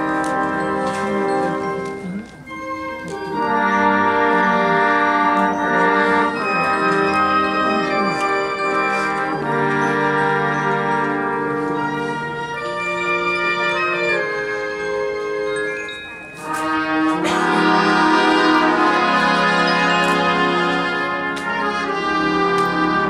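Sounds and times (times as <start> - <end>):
brass and saxophones playing chords: 0.0 - 23.0.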